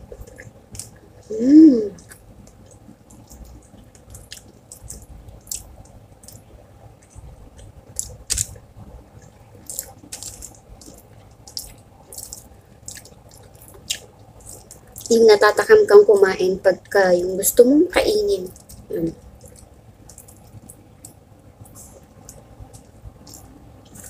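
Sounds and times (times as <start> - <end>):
person chewing: 0.1 - 8.6, 9.2 - 15.1, 18.5 - 24.0.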